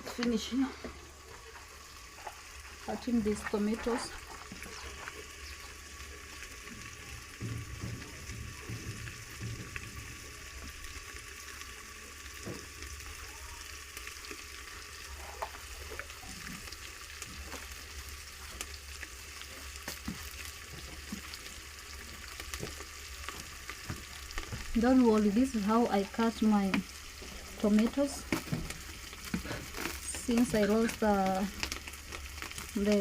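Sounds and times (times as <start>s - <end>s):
onions sizzling in a pan: 0.0s - 33.0s.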